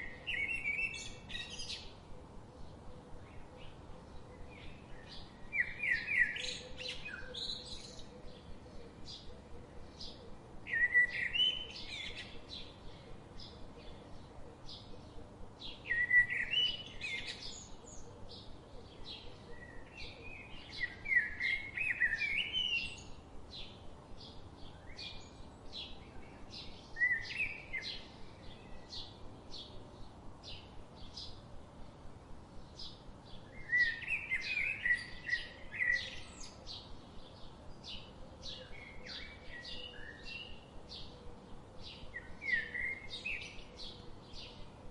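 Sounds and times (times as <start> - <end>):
songbirds warbling: 0.0 - 44.9.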